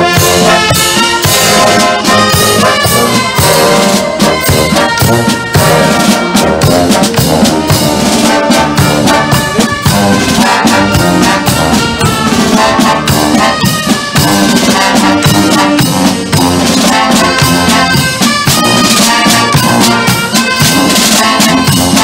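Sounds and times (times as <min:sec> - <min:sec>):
brass instruments: 0:00.0 - 0:22.0
marching drum beats: 0:00.0 - 0:22.0.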